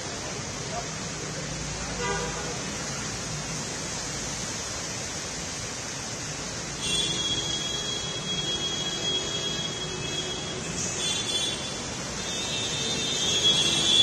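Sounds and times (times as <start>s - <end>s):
traffic on wet road: 0.0s - 14.0s
vehicles wading through floodwater: 0.0s - 14.0s.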